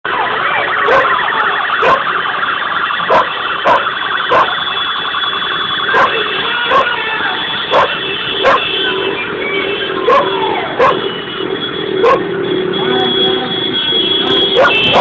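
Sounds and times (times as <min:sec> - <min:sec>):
sirens warbling: 0:00.0 - 0:15.0.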